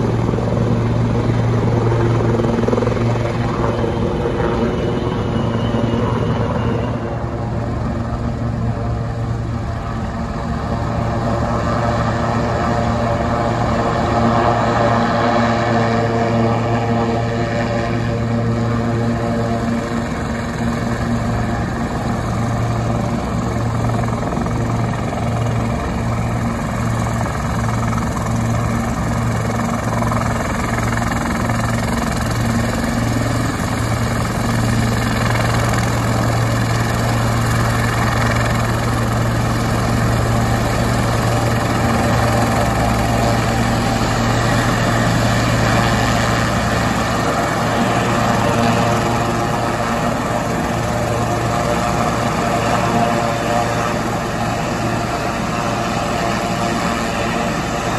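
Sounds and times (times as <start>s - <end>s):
helicopter engines and rotors droning: 0.0s - 57.9s.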